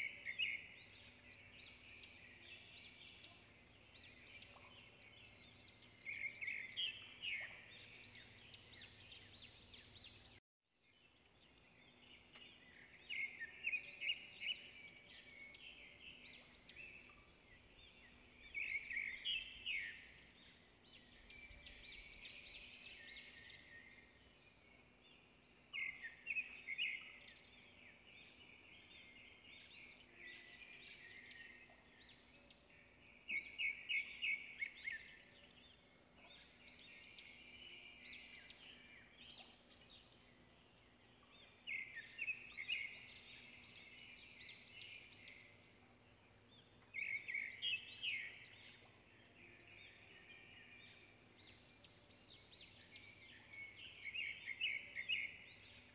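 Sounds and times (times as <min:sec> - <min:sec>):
songbird chirping and trilling: 0:00.0 - 0:55.9.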